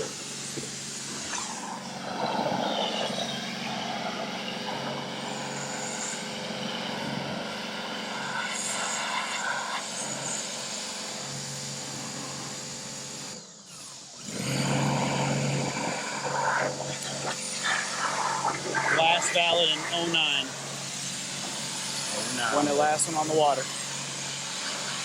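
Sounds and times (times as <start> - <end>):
pressure washer motor hum: 0.0 - 25.0.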